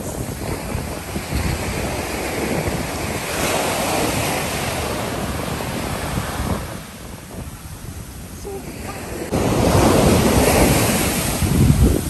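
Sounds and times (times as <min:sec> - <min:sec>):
surf breaking on a beach: 0:00.0 - 0:12.0
wind buffeting the microphone: 0:00.0 - 0:12.0.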